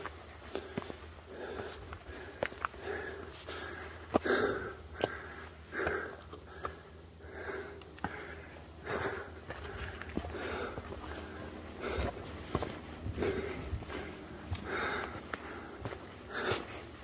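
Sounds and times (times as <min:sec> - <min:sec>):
footsteps on loose stones: 0:00.0 - 0:04.4, 0:07.8 - 0:17.0
person breathing heavily: 0:00.0 - 0:17.0.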